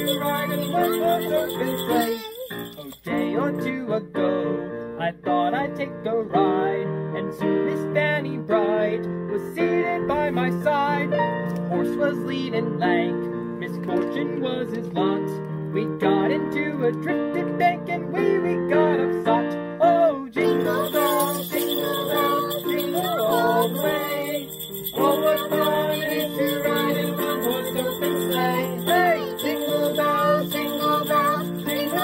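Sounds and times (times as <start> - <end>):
digital piano playing a lively tune: 0.0 - 32.0.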